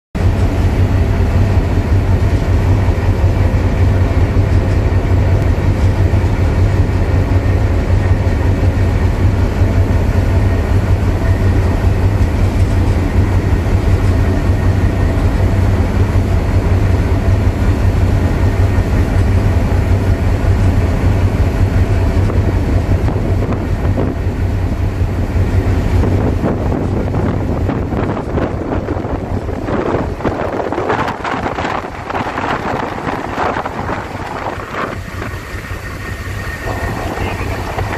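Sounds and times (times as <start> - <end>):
boat wake churning: 0.2 - 37.9
diesel engines droning: 0.2 - 37.9.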